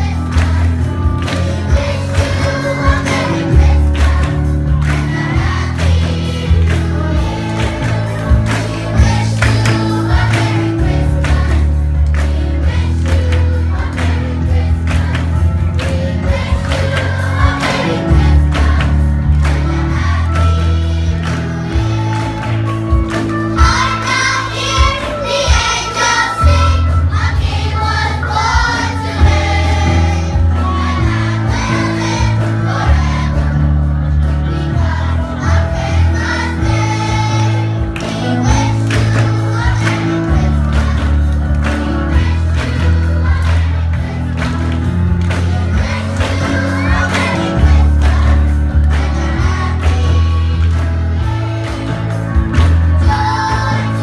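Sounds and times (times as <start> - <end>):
singers clapping: 0.0 - 33.7, 34.8 - 54.0
band accompaniment: 0.0 - 54.0
children's choir singing: 0.0 - 54.0.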